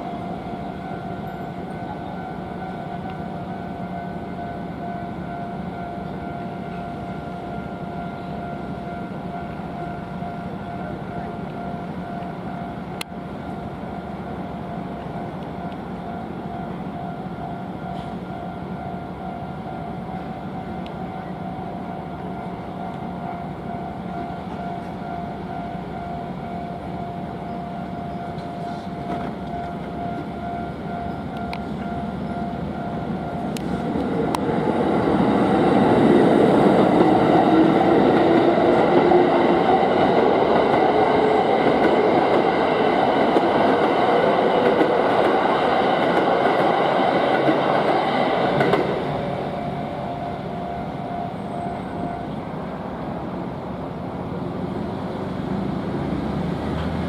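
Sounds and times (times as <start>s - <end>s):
level crossing warning bell: 0.0s - 52.6s
electric train passing: 0.0s - 57.0s.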